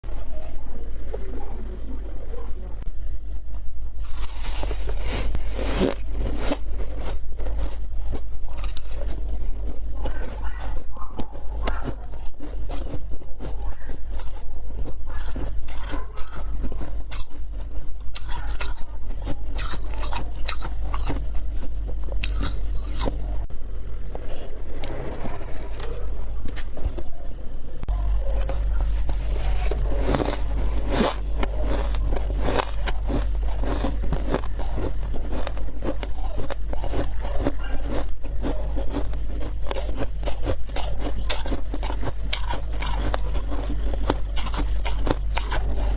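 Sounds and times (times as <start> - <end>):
steady low hum: 0.0 - 45.9
crunchy chewing: 3.3 - 23.5, 24.1 - 45.9
spoon scraping frost: 4.0 - 23.3, 28.2 - 45.9.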